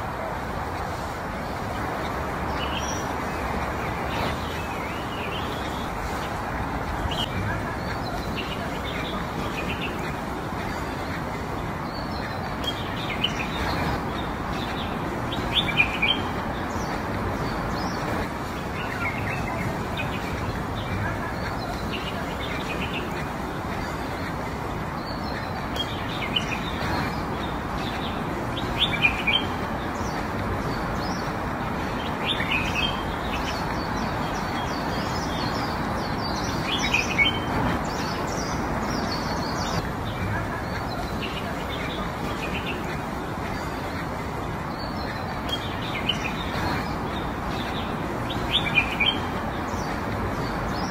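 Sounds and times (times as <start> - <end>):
small birds chirping: 0.0 - 50.9
steady background hiss: 0.0 - 50.9.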